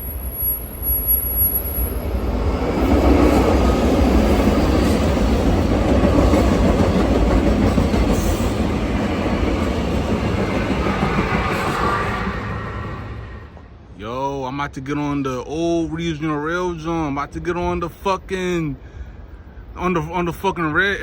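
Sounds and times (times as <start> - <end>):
passenger train rumbling past: 0.0 - 21.0.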